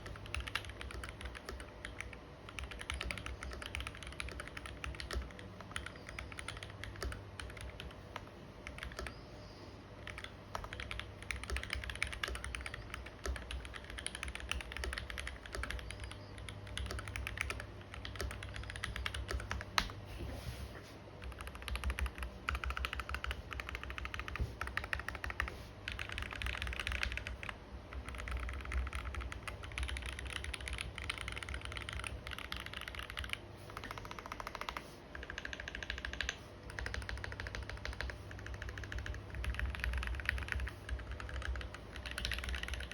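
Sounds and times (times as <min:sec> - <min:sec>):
mechanical keyboard typing: 0:00.0 - 0:09.2, 0:10.0 - 0:20.0, 0:21.2 - 0:42.9.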